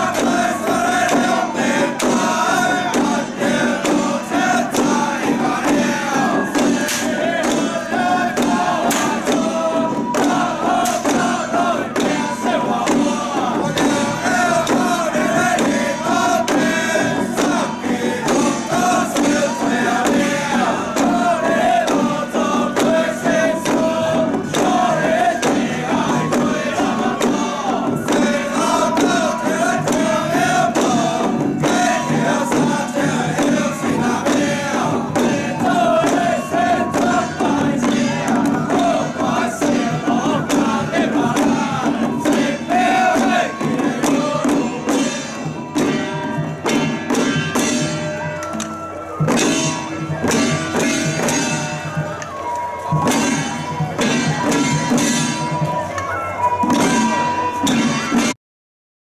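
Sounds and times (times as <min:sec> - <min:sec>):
men chanting in unison: 0:00.0 - 0:48.0
handheld drums beaten: 0:00.0 - 0:58.4.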